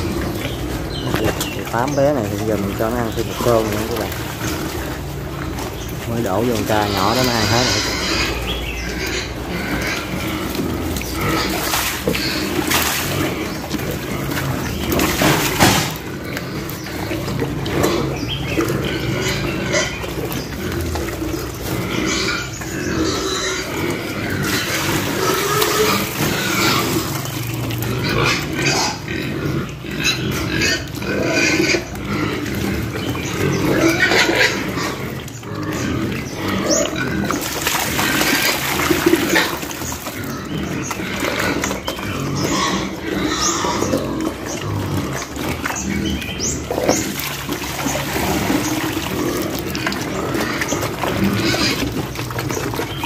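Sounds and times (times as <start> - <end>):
piglets grunting and eating: 0.0 - 53.0.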